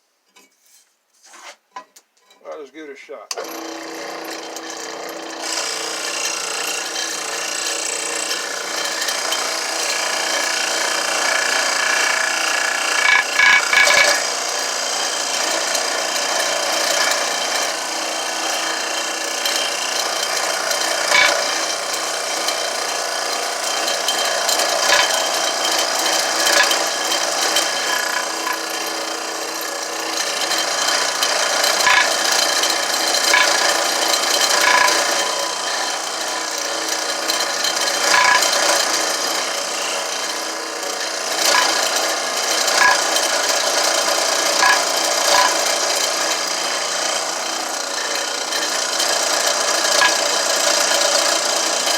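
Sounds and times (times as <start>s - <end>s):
power tool sanding wood: 2.6s - 51.9s.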